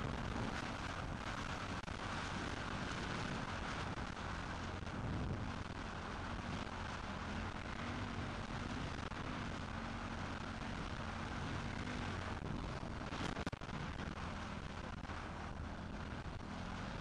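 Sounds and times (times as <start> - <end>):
muffled dirt bike engine: 0.0 - 17.0.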